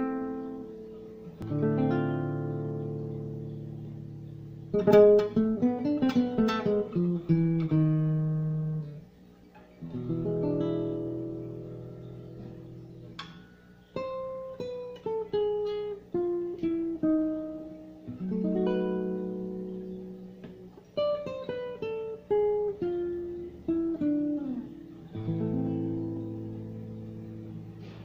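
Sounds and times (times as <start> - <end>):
classical guitar fingerstyle: 0.0 - 28.0.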